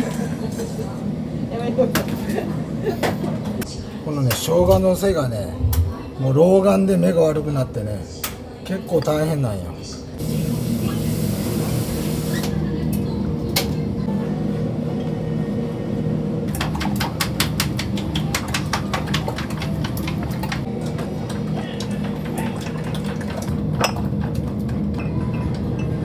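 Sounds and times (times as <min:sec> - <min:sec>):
kitchen hum: 0:00.0 - 0:26.0.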